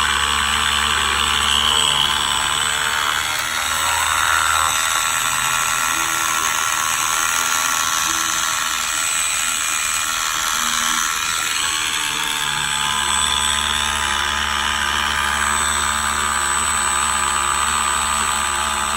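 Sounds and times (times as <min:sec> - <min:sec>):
electric motor whining: 0:00.0 - 0:18.9.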